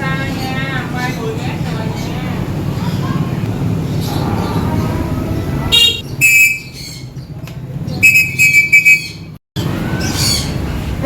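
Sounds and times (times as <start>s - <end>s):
lovebirds calling: 0.1s - 10.9s.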